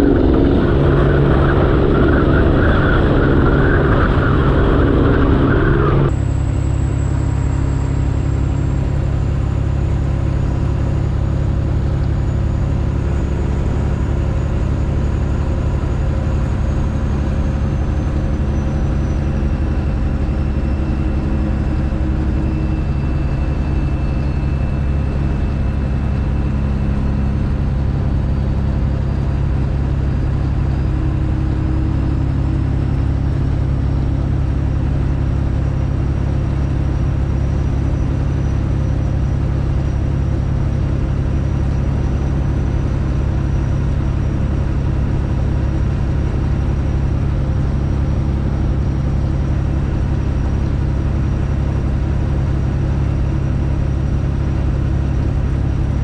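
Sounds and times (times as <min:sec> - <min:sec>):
loud diesel truck engine running: 0:00.0 - 0:56.0.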